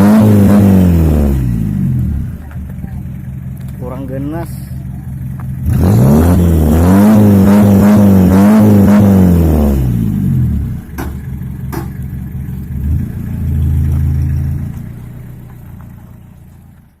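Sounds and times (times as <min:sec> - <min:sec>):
engine revving: 0:00.0 - 0:15.6.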